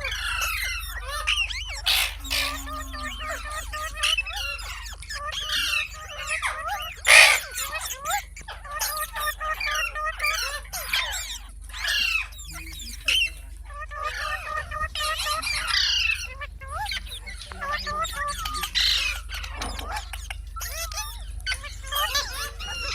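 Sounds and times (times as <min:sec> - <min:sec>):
parrot chattering and whistling: 0:00.0 - 0:22.9
parrot harsh squawk: 0:00.0 - 0:22.9.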